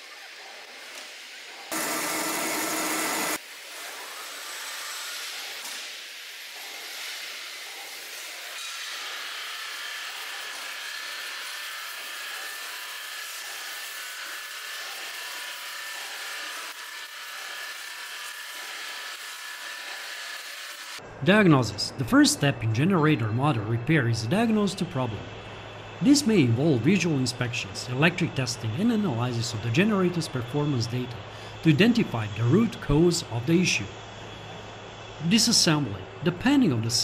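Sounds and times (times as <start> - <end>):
hissing factory machine noise: 0.0 - 37.0.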